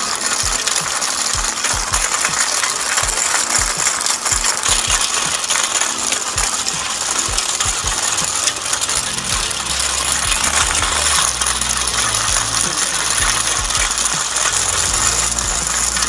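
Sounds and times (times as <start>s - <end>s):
toy motor plastic clatter: 0.0s - 16.0s.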